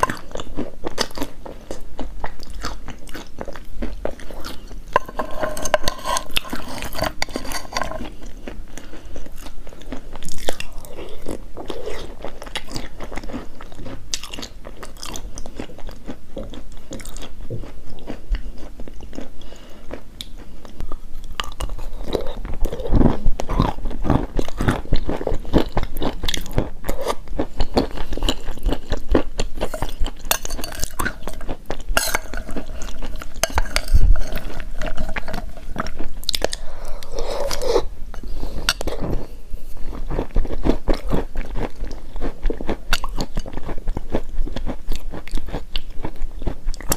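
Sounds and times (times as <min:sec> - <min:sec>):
chalk crunching being chewed: 0:00.0 - 0:46.9.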